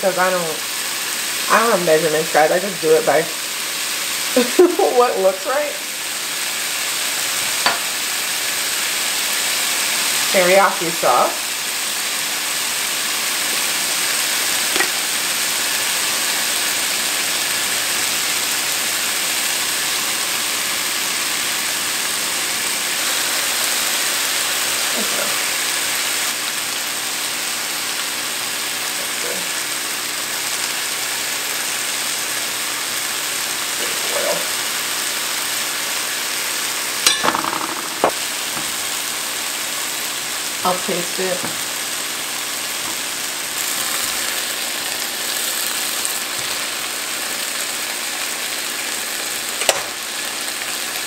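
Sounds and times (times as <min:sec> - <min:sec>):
chicken sizzling in a skillet: 0:00.0 - 0:51.0.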